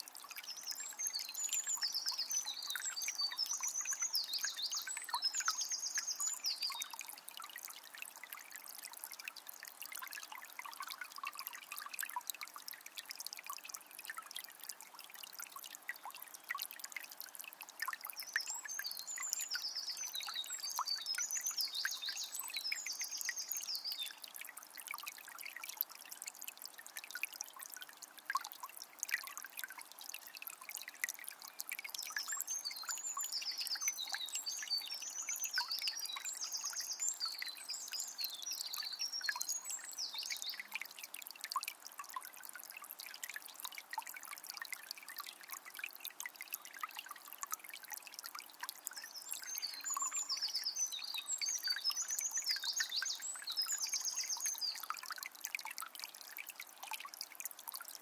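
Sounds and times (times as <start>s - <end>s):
river trickling over stones: 0.0s - 58.0s.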